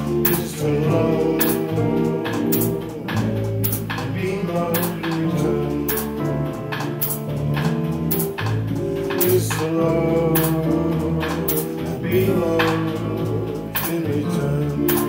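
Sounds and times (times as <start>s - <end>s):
double bass: 0.0s - 15.0s
drums: 0.0s - 15.0s
guitar: 0.0s - 15.0s
piano: 0.0s - 15.0s.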